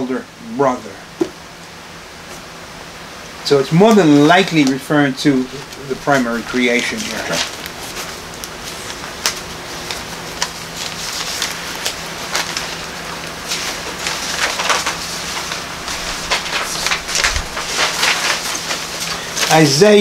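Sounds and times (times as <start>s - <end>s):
low steady hum: 0.0s - 20.0s
pages rustling: 3.8s - 20.0s.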